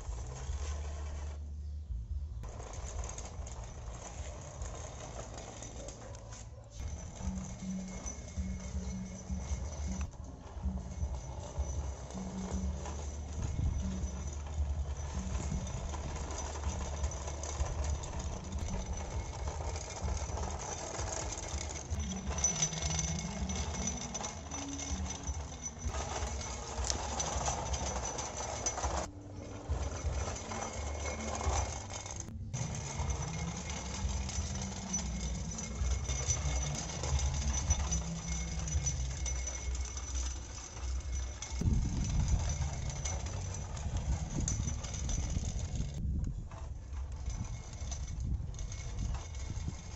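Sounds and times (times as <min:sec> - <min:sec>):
toy electric motors running: 0:02.4 - 0:45.9.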